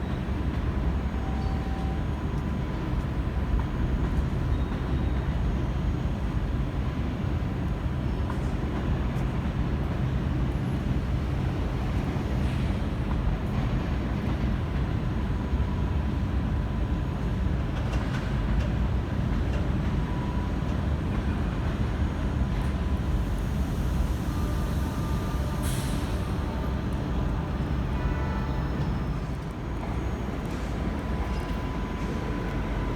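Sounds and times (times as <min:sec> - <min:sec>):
train low rumble: 0:00.0 - 0:32.9.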